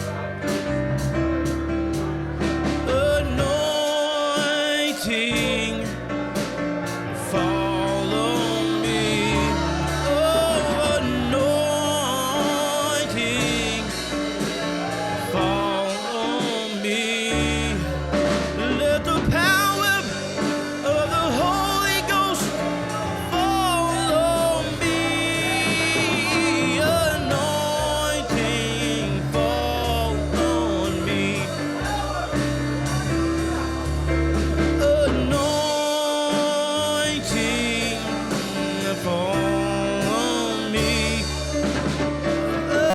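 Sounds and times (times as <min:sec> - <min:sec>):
instrumental accompaniment with bass: 0:00.0 - 0:42.9
person singing with vibrato: 0:02.3 - 0:42.9.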